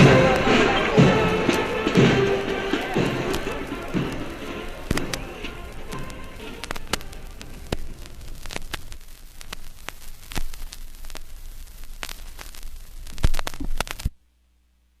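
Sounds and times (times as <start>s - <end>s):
vinyl clicks and pops: 0.0s - 14.2s
vinyl surface hiss: 0.0s - 15.0s.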